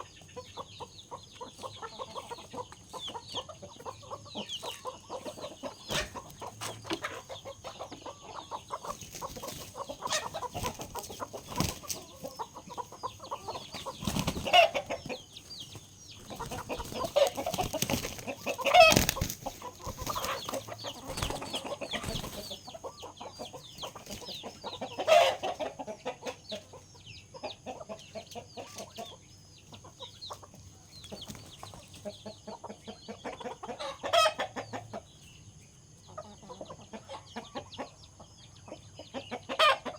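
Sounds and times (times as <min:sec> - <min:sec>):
loud chicken calls: 0:00.0 - 0:30.5, 0:31.2 - 0:35.1, 0:39.0 - 0:39.9
chickens clucking: 0:00.0 - 0:39.9.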